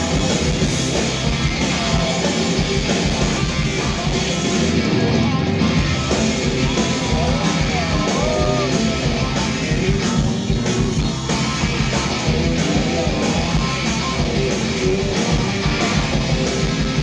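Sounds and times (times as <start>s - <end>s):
drum kit: 0.0s - 17.0s
electric bass: 0.0s - 17.0s
electric guitar: 0.0s - 17.0s.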